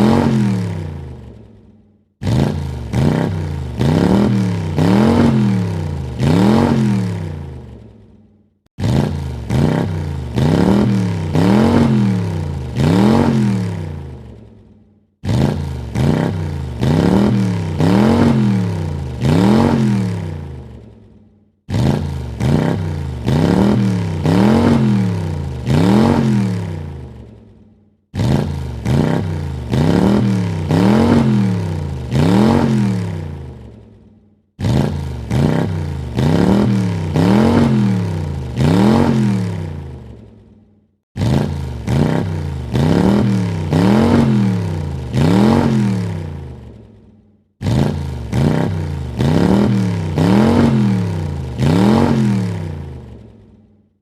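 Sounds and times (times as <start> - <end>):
car engine revving: 0.0 - 1.4, 2.2 - 7.9, 8.8 - 14.4, 15.2 - 20.9, 21.7 - 27.4, 28.1 - 33.8, 34.6 - 40.2, 41.2 - 46.8, 47.6 - 53.3.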